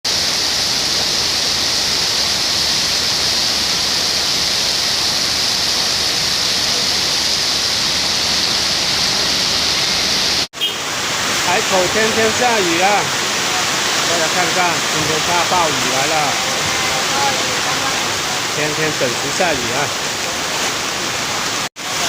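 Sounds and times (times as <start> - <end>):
heavy pouring rain: 0.0 - 22.0.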